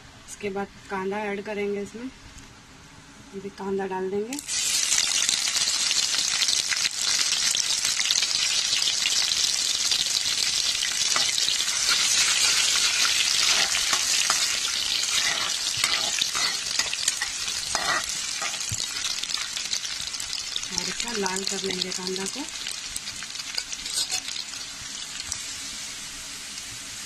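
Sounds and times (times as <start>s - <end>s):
onions sizzling in hot oil: 4.3s - 27.0s.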